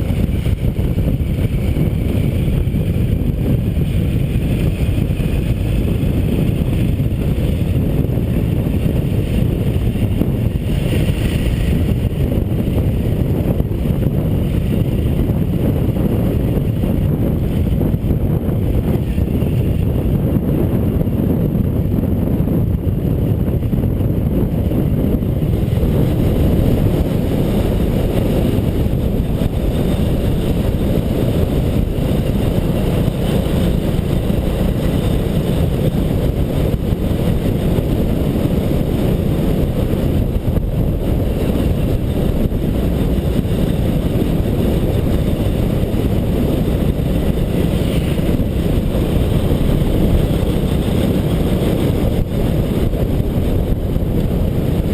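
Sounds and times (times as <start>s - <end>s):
motorcycle engine: 0.0s - 54.9s
wind buffeting microphone: 0.0s - 54.9s.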